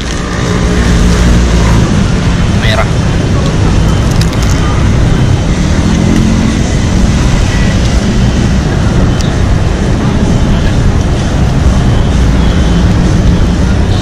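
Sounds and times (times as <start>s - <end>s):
low rumble of passing vehicles: 0.0s - 14.0s.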